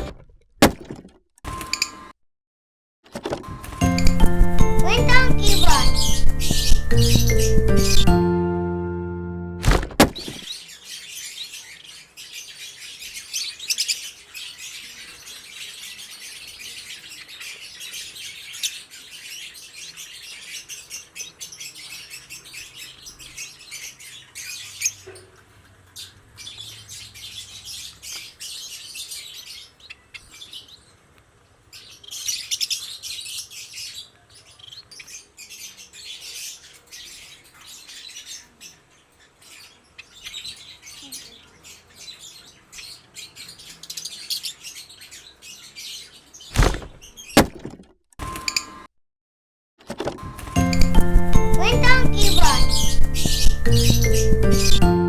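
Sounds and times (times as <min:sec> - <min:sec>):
cage birds twittering: 0:03.5 - 0:08.2, 0:10.2 - 0:47.4, 0:50.4 - 0:55.0.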